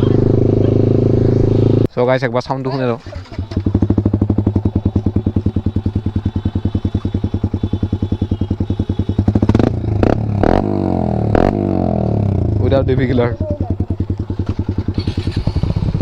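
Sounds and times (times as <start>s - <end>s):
motorcycle engine revving: 0.0s - 1.9s, 2.9s - 16.0s
exhaust cracks: 2.8s - 16.0s.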